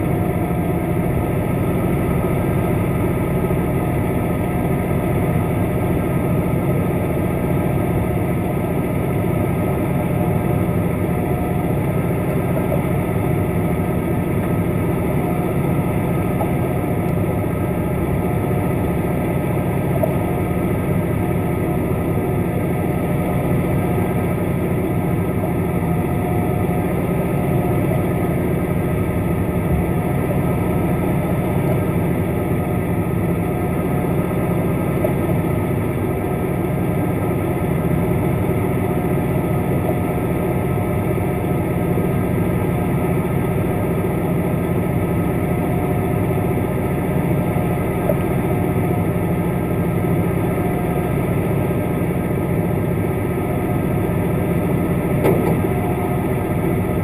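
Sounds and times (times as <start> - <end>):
boat engine drone underwater: 0.0 - 57.0.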